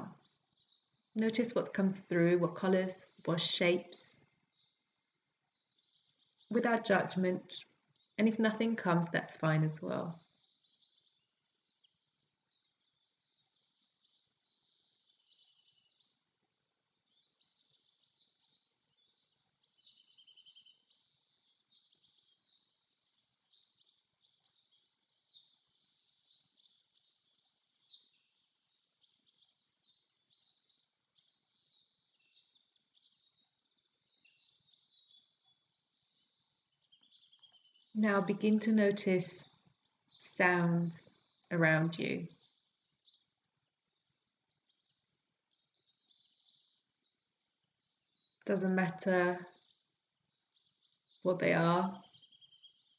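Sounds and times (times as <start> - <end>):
faint birds chirping and trilling: 0.0 - 52.9.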